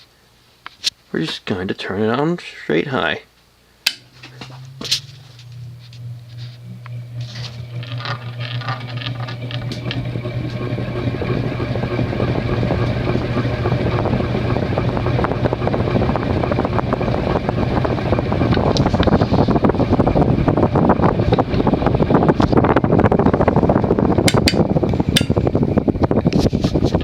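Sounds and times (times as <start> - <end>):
ceiling fan electrical hum: 0.0 - 27.0
cyclic buzz of fan: 3.6 - 27.0
whoosh of fan blades: 4.1 - 27.0.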